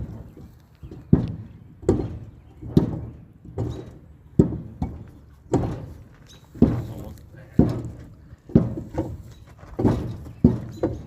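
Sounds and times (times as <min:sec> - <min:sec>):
heavy dull thuds: 0:00.0 - 0:11.0.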